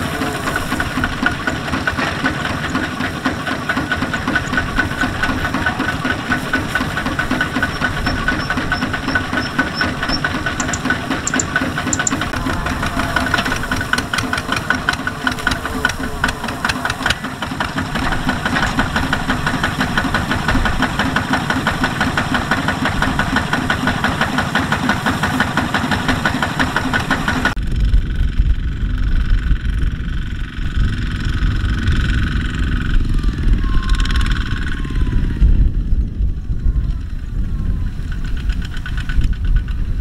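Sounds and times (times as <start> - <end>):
diesel engine clattering: 0.0 - 40.0.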